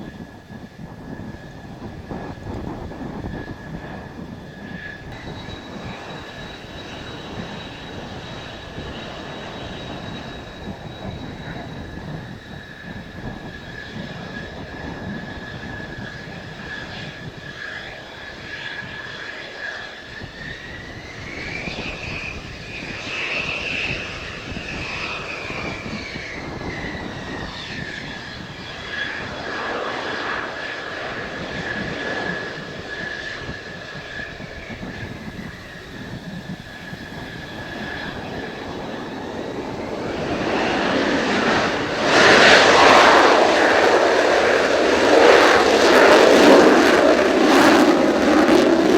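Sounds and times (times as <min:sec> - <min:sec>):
jet turbine whine: 0:00.0 - 0:48.9
loud jet roar: 0:00.0 - 0:48.9.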